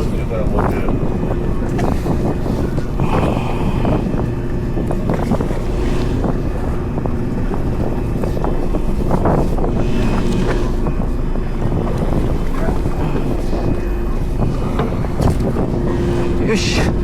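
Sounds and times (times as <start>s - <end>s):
boat engine running: 0.0s - 17.0s
water around hull: 0.0s - 17.0s
wind buffeting microphone: 0.0s - 17.0s.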